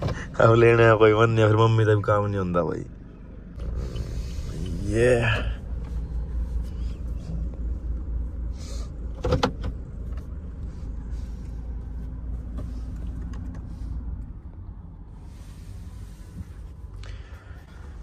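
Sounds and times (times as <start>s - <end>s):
suv engine low rumble: 0.0s - 18.0s.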